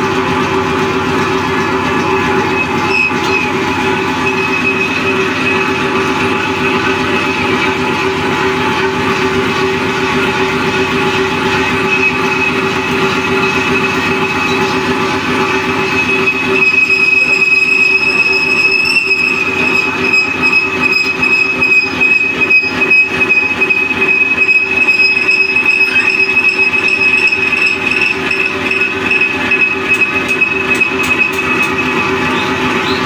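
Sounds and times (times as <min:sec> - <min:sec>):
metal lathe whining: 0:00.0 - 0:33.0.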